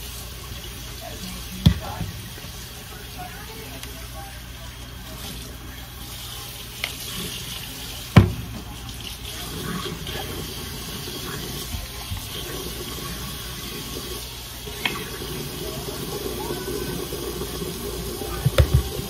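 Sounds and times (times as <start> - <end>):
tap water running into sink: 0.0 - 2.8, 6.1 - 19.0.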